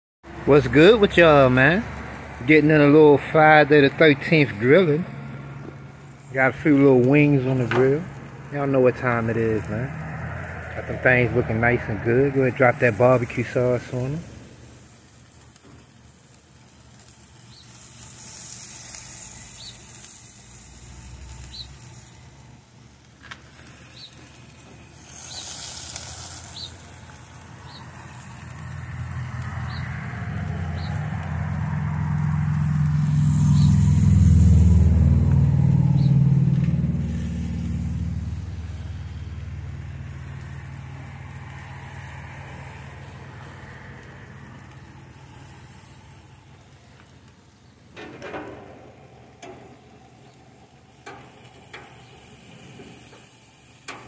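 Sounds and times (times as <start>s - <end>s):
motor vehicle driving past: 0.2s - 54.0s.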